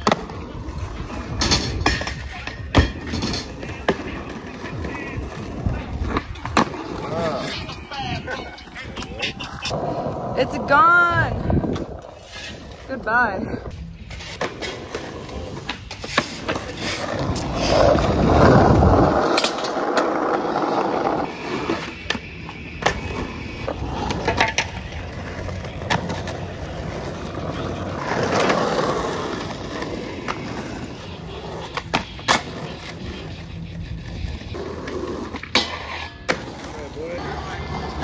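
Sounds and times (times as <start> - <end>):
skateboard wheels rolling on asphalt: 0.0 - 38.0
skateboards clacking: 0.0 - 38.0.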